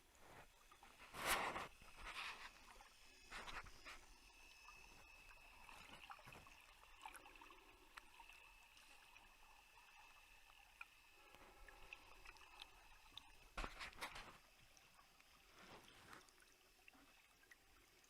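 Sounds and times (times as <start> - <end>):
underwater clicks and crackles: 0.1 - 17.6.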